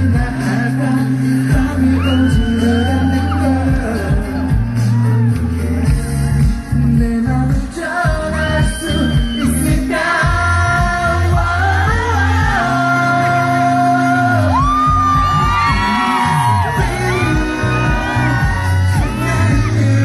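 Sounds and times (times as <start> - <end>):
amplified instrumental backing: 0.0 - 20.0
man singing into a microphone: 0.0 - 20.0
steady bass line: 0.0 - 20.0.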